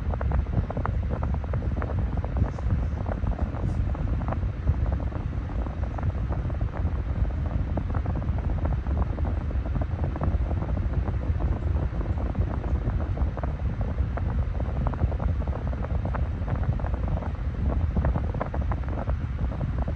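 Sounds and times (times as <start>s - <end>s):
desk fan wind rumble: 0.0s - 19.9s.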